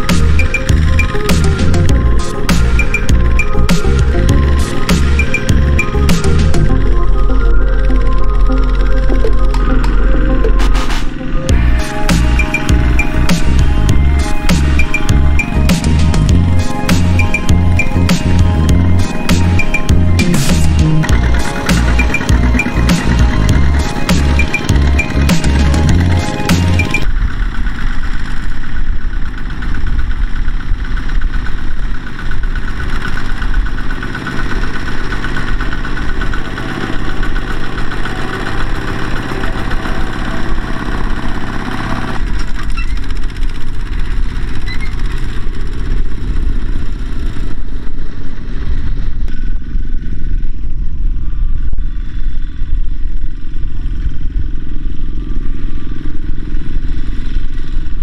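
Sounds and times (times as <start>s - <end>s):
diesel tractor engines running: 0.0s - 58.0s.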